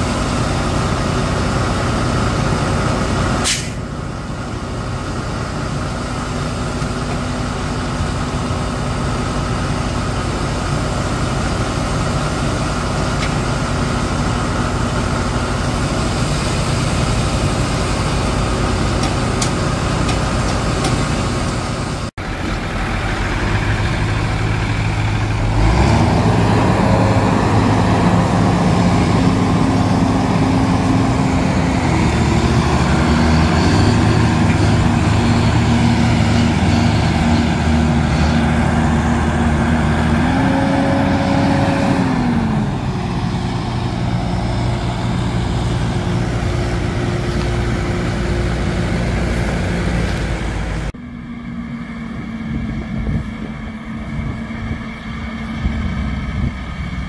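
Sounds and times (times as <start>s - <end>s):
tractor diesel engines under load: 0.0s - 57.0s.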